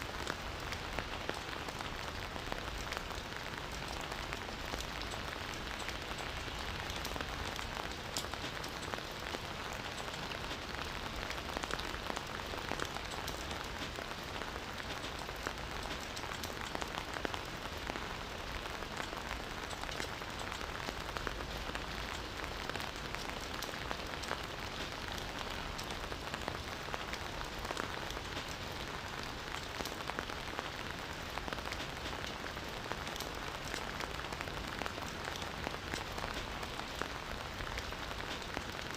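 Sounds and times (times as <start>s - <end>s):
raindrops ticking on leaves: 0.0s - 38.9s
steady rain hiss: 0.0s - 38.9s.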